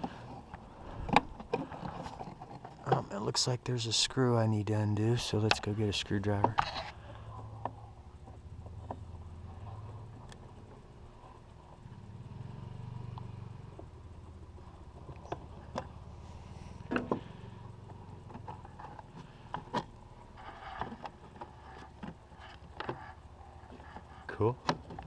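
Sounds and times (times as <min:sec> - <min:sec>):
low vehicle rumble: 0:04.4 - 0:25.0.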